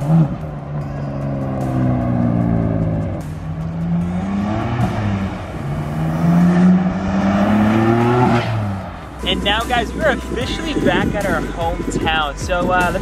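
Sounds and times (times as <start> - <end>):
car engine accelerating hard: 0.0 - 11.4.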